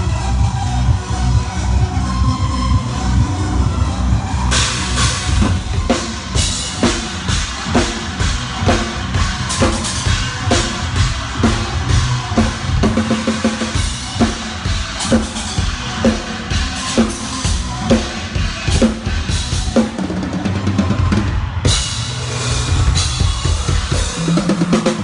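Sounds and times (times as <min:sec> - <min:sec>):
drum kit beat: 0:04.5 - 0:25.0.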